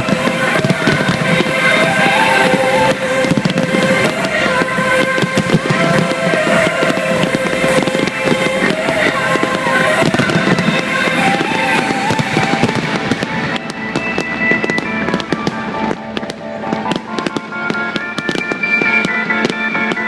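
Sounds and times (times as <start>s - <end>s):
fireworks bursting and crackling: 0.0s - 20.0s
loud music: 0.0s - 20.0s.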